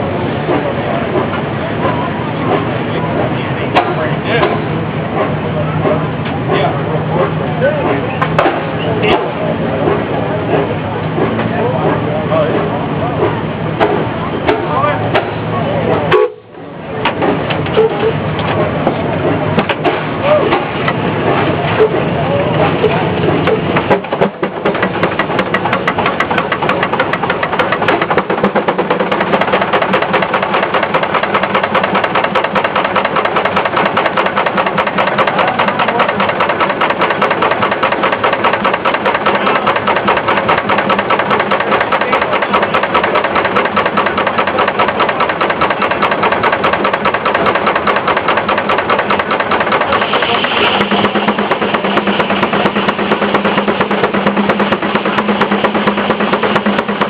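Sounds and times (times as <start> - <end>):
steam traction engine exhaust beats: 0.0 - 57.0.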